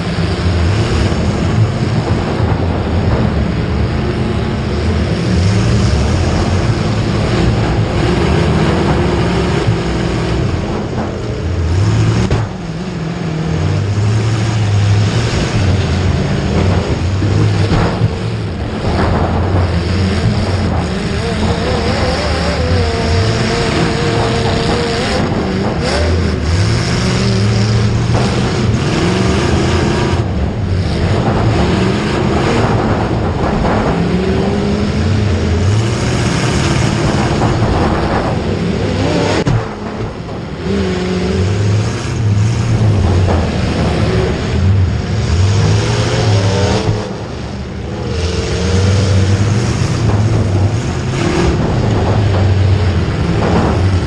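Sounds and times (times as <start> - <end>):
vehicle engines revving: 0.0 - 54.0.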